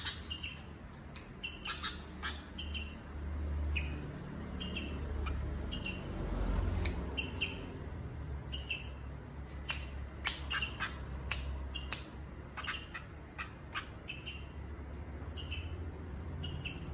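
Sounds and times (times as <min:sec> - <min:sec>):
bird chirping: 0:00.0 - 0:06.2, 0:06.9 - 0:07.8, 0:08.4 - 0:16.9.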